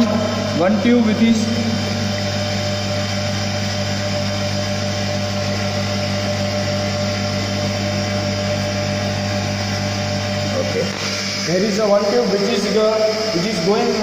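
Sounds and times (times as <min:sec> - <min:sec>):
water pump humming with whine: 0:00.0 - 0:14.0.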